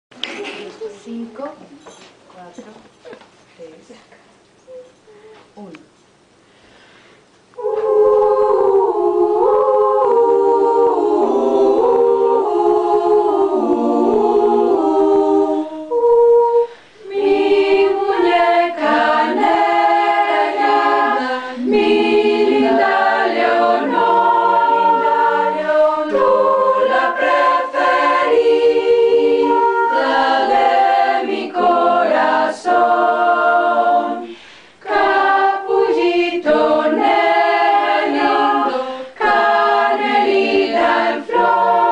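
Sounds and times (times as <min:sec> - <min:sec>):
a cappella choir singing: 0:07.5 - 0:41.9.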